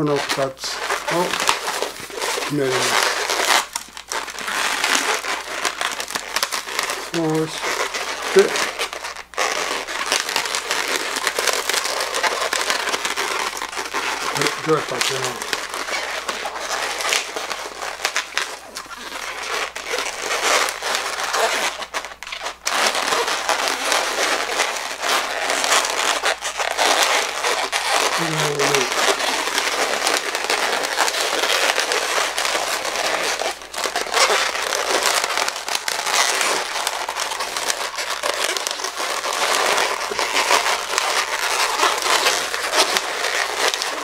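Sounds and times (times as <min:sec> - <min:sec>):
latex balloon squeaking and crackling: 0:00.0 - 0:44.0.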